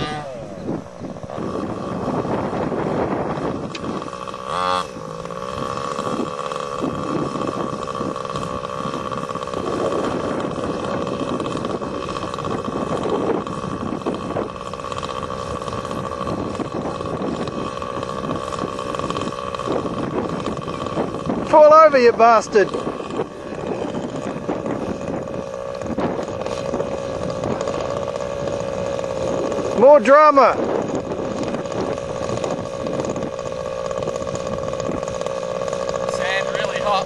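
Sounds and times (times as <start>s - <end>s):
small engine high-pitched drone: 0.0s - 37.0s.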